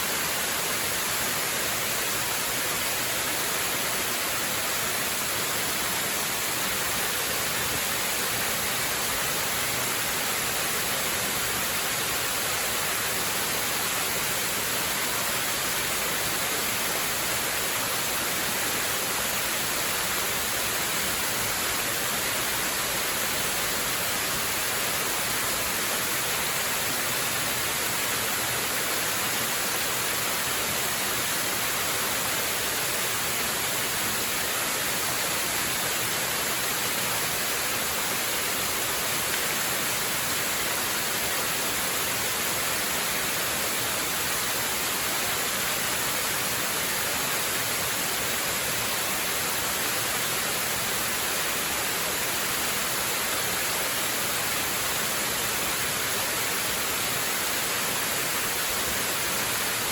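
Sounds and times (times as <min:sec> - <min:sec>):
waterfall hiss: 0:00.0 - 0:59.9.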